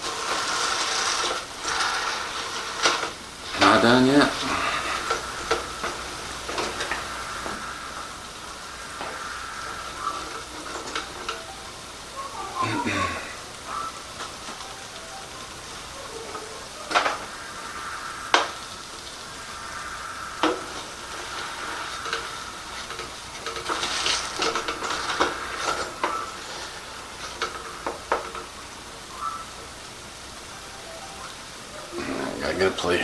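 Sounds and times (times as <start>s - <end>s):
burgers sizzling in a frying pan: 0.0s - 33.0s.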